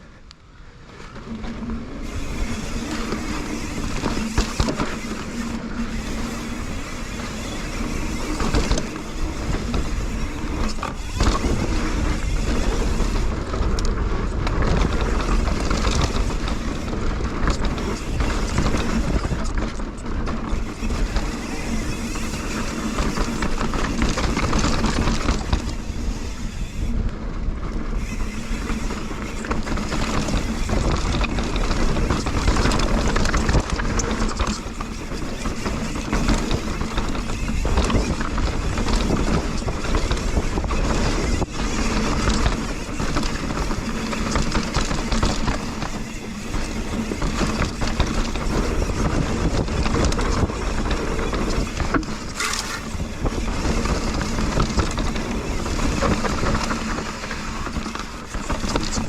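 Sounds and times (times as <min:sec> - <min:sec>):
bike rattles and knocks: 0:00.8 - 0:59.0
tyre noise on dirt: 0:00.9 - 0:59.0
wind rushing over microphone: 0:01.2 - 0:59.0.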